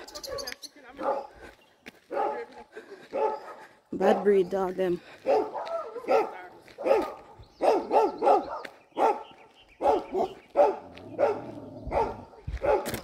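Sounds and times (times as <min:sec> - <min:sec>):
dog barking: 0:01.0 - 0:01.4, 0:02.1 - 0:04.4, 0:05.2 - 0:13.0.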